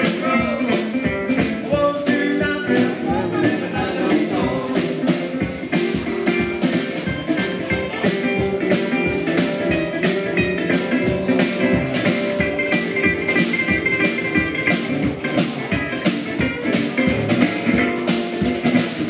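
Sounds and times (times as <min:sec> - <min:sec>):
guitar: 0:00.0 - 0:19.0
steady drum beat: 0:00.0 - 0:19.0.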